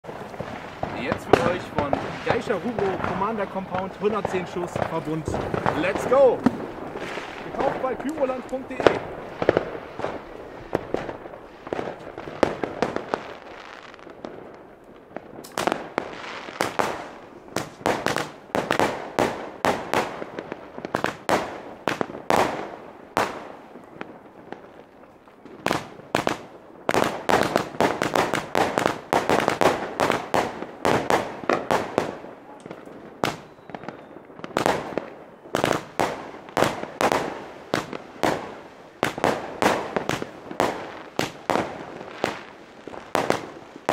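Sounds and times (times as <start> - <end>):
firework shots and bursts: 0.0 - 43.9.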